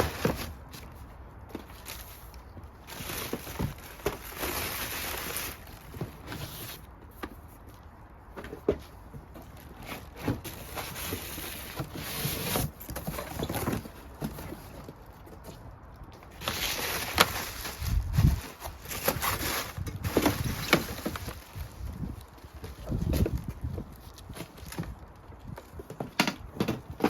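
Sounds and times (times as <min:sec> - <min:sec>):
handling rustles: 0:00.0 - 0:27.0.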